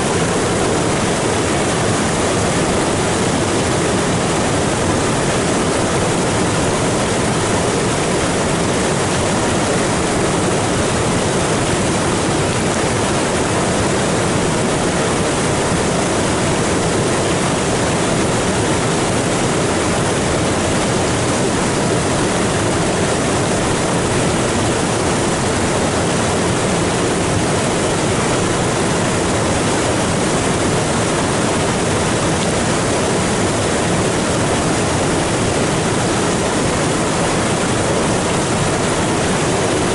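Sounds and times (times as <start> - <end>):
floodwater rushing over rock: 0.0 - 39.9.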